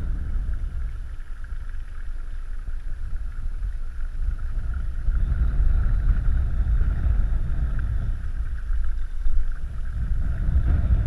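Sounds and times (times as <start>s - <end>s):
constant high hiss: 0.0s - 11.0s
wind rumble on microphone: 0.0s - 11.0s.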